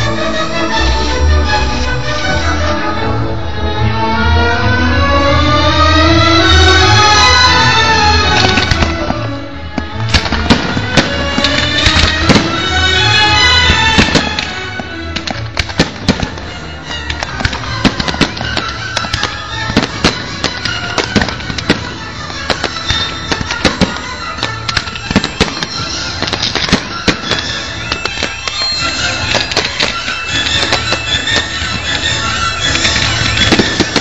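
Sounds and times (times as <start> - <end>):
music playing: 0.0 - 34.0
fireworks bangs and crackles: 5.9 - 34.0.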